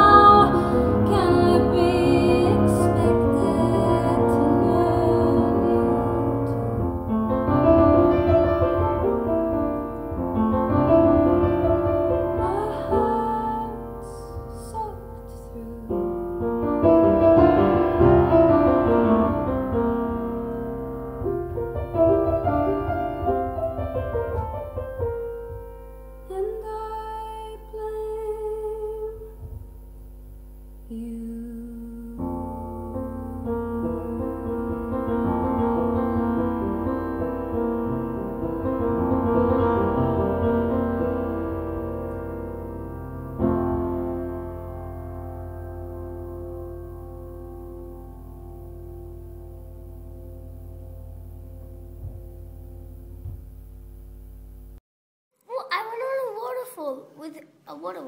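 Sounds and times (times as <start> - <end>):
piano-led music: 0.0 - 27.6, 32.1 - 53.9.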